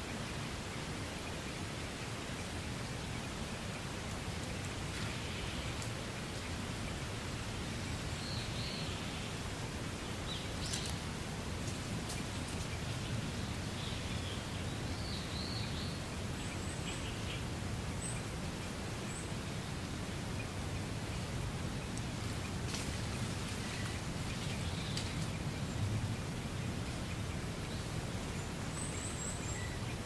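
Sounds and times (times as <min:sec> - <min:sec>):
wind rustling reeds: 0:00.0 - 0:30.0.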